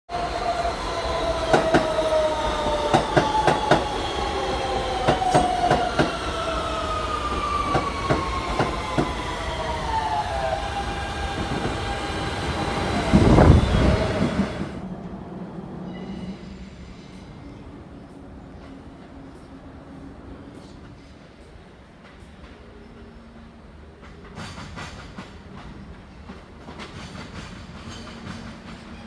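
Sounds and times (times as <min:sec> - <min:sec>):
low train rumble: 0:00.1 - 0:29.0
subway train motors whining: 0:00.1 - 0:29.0.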